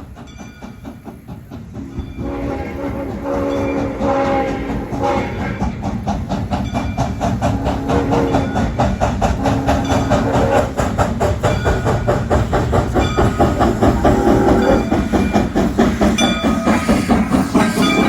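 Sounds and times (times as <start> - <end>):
rail noise: 0.0 - 18.0
steam hissing: 0.0 - 18.0
steam locomotive exhaust beats: 0.0 - 18.0.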